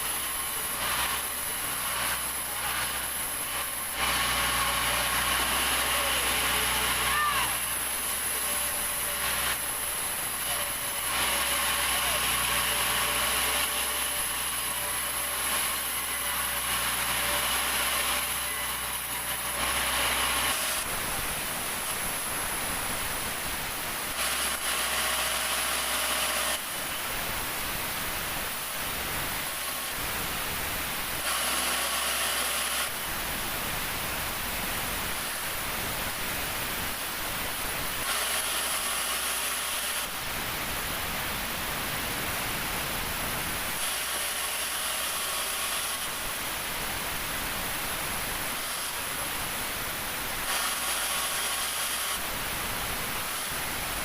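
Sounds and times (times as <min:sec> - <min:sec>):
sawmill saw cutting wood: 0:00.0 - 0:54.0.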